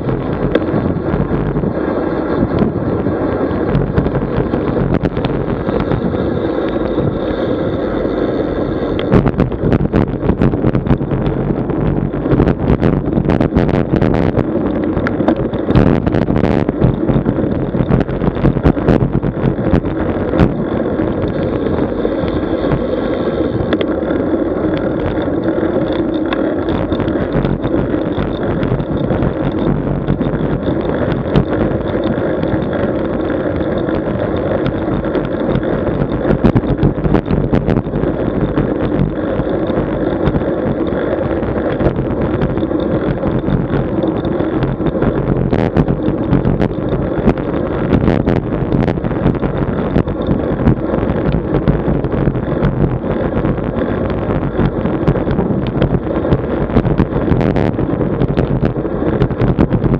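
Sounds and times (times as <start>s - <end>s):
road noise: 0.0s - 59.9s
wind on microphone: 0.0s - 59.9s.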